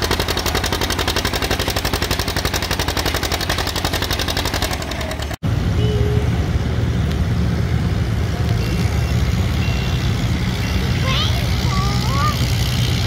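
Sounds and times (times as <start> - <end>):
low engine rumble: 0.0 - 13.0
tractor engine exhaust pulses: 0.0 - 13.0.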